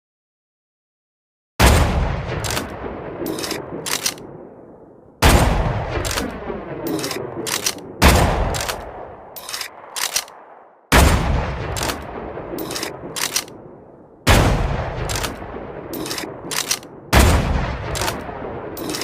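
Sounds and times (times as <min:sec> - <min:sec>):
rifle shots echoing: 0:01.6 - 0:04.4, 0:05.2 - 0:19.0.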